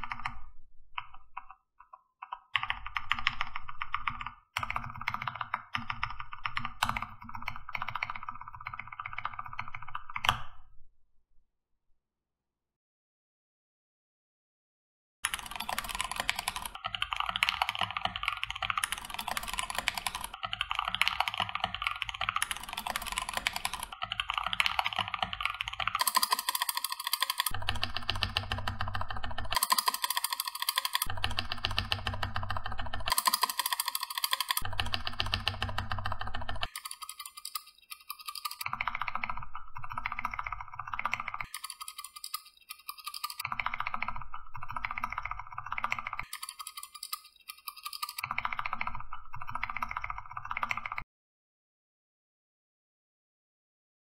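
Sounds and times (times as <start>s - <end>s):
fast typing on mechanical keyboard: 0.0s - 0.4s, 2.2s - 10.4s, 15.2s - 51.0s.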